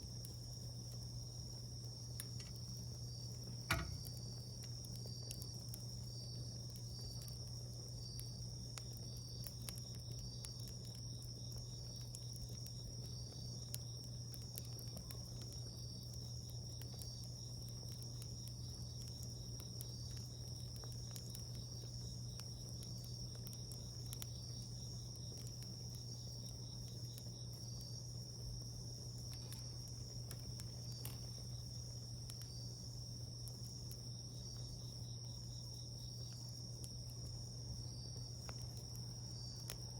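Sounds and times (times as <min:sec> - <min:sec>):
insect chirping: 0:00.0 - 0:39.9
insects trilling: 0:00.0 - 0:39.9
wood fire crackling: 0:00.0 - 0:39.9.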